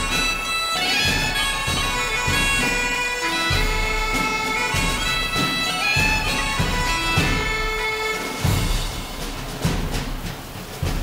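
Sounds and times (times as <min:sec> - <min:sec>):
bagpipe tune over drone: 0:00.0 - 0:09.4
drum hits: 0:00.0 - 0:11.0.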